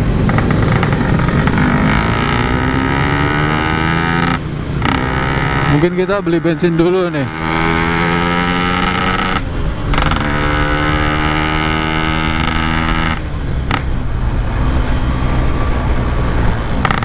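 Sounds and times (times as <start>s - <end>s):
two-stroke motorcycle engine: 0.0s - 14.1s, 16.6s - 17.0s.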